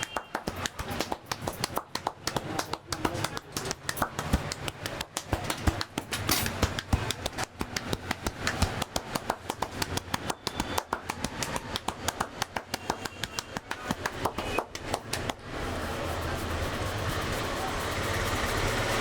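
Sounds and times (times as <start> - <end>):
hands slapping head and shoulders: 0.0 - 15.6.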